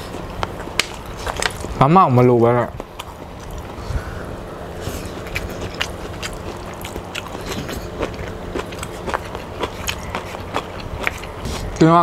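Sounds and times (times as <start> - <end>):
wet chewing mouth sounds: 0.1 - 1.8, 2.8 - 4.0, 4.7 - 12.0.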